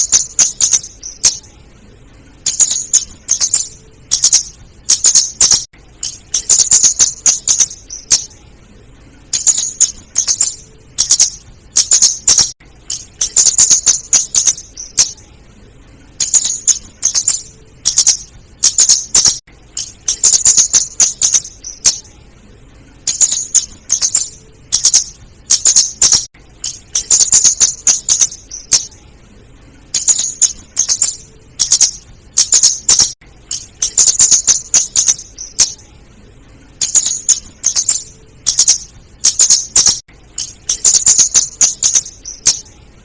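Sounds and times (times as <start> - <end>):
bird sharp ticking calls: 0.0 - 1.5, 2.4 - 8.4, 9.3 - 15.2, 16.2 - 22.1, 23.0 - 29.0, 29.9 - 35.8, 36.8 - 42.6.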